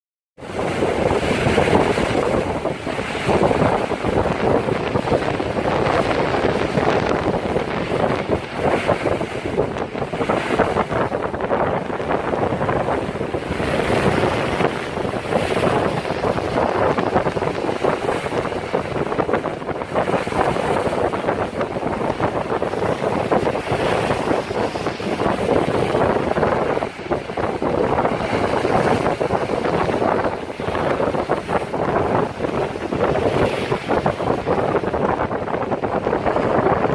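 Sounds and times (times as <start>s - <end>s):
ocean surf crashing on rocks: 0.4s - 36.9s
wind buffeting microphone: 0.4s - 36.9s.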